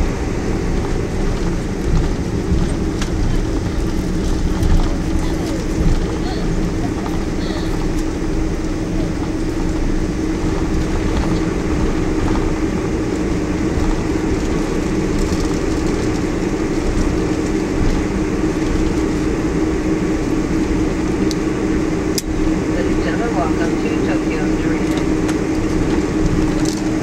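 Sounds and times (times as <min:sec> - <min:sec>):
airplane cabin rumble: 0:00.0 - 0:27.0
jet engine hum: 0:00.0 - 0:27.0.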